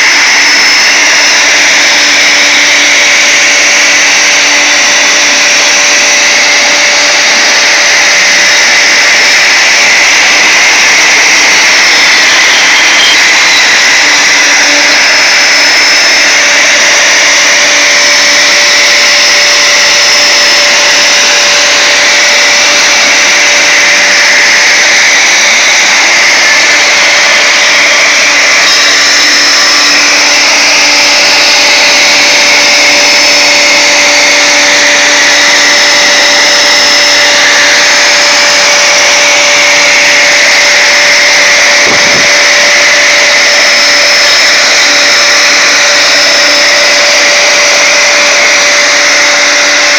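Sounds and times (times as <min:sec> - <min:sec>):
router spindle high whine: 0:00.0 - 0:49.9.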